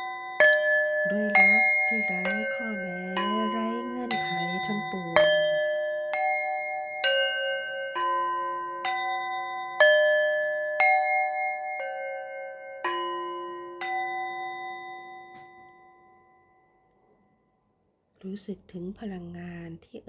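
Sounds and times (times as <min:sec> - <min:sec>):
bell-like chime notes: 0:00.0 - 0:17.7.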